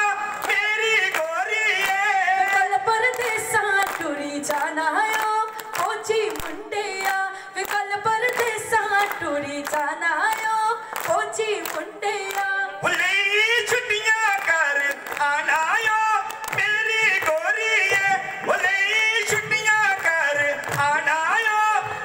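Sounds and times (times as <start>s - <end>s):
high voice singing folk song: 0.0s - 22.0s
sharp handclaps: 0.0s - 22.0s.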